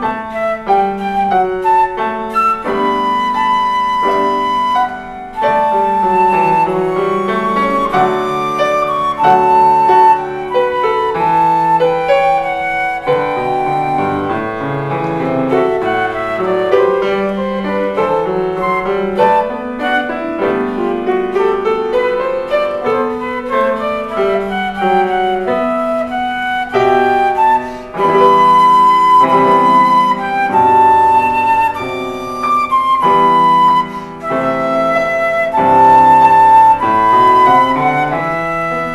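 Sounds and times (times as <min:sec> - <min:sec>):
instrumental music: 0:00.0 - 0:38.9.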